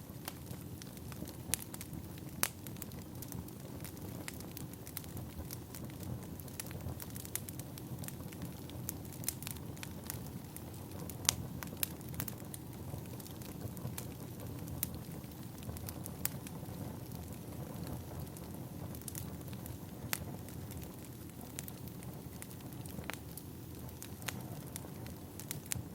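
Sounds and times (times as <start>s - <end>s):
burning logs rumbling: 0.0s - 25.9s
wood fire crackling: 0.0s - 25.9s.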